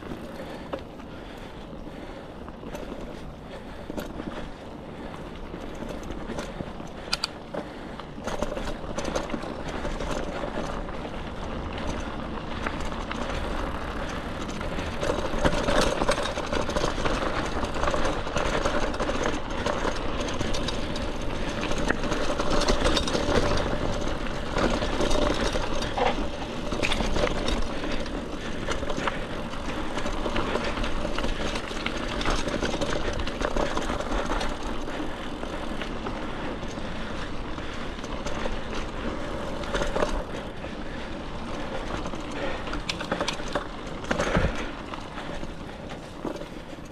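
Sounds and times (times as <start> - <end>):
bike clicks and rattles: 0.0 - 46.9
tyre and wind noise: 0.0 - 46.9.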